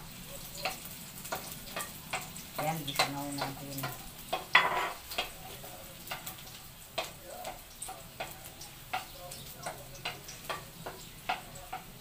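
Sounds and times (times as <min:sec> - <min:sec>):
light sizzle of sauteing: 0:00.0 - 0:12.0
spatula stirring and knocking wok: 0:00.0 - 0:12.0.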